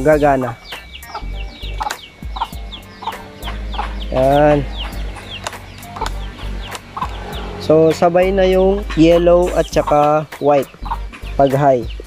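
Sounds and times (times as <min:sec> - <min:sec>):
low steady hum: 0:00.0 - 0:09.8
chicks peeping: 0:00.0 - 0:12.0.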